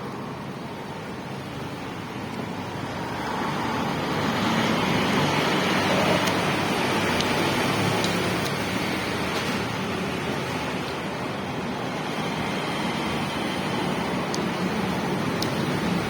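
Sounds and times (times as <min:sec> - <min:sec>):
vehicle road noise: 0:00.0 - 0:16.0.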